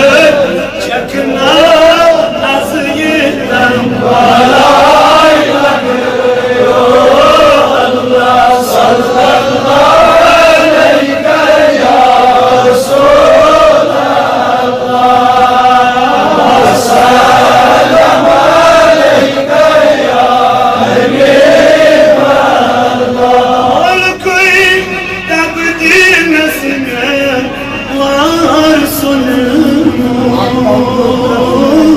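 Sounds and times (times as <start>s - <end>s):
man chanting devotional poem: 0.0s - 21.3s, 21.9s - 31.9s.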